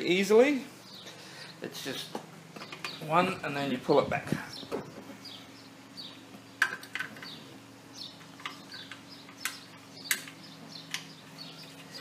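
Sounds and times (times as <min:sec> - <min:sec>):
faint steady hum: 0:00.0 - 0:12.0
birds chirping: 0:00.6 - 0:12.0.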